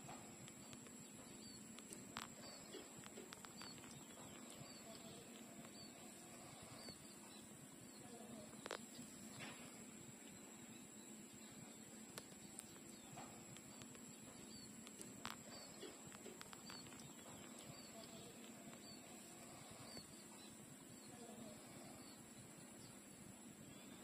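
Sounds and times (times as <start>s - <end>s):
faint high chirp: 0.0s - 24.0s
puppies sucking softly: 0.0s - 24.0s.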